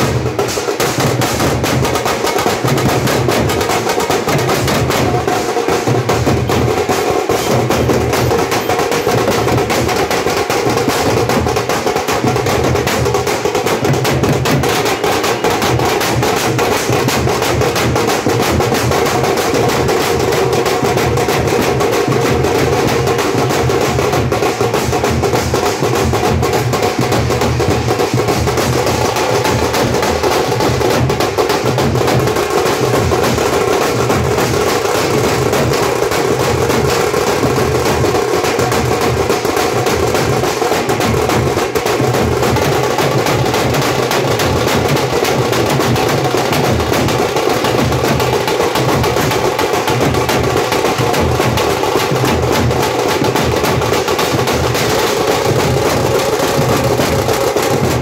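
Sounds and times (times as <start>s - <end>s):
deep drum beat: 0.0s - 58.0s
drum band playing fast rhythm: 0.0s - 58.0s.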